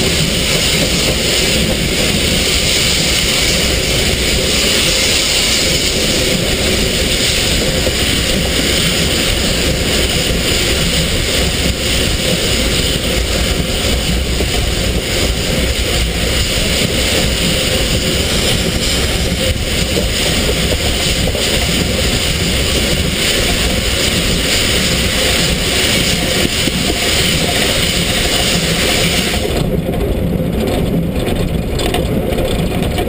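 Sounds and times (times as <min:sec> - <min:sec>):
steam hissing: 0:00.0 - 0:29.8
steam locomotive wheels rumbling: 0:00.0 - 0:33.0
wind on microphone: 0:00.0 - 0:33.0.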